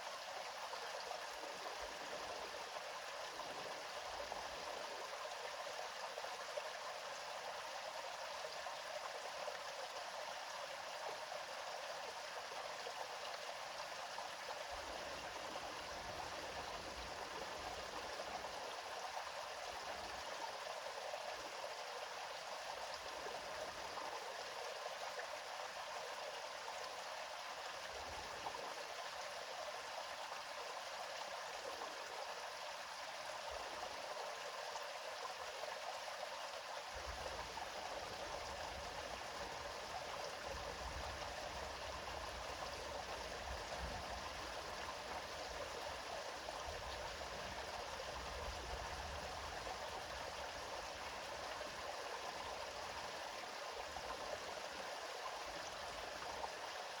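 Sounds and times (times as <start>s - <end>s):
deep low-pitched water flow: 0.2s - 57.0s.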